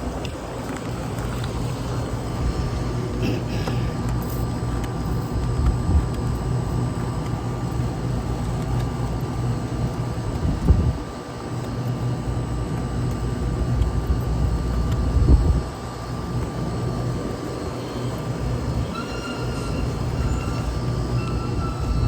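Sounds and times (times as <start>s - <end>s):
constant hum: 0.0s - 22.0s
low mechanical rumble: 0.0s - 22.0s.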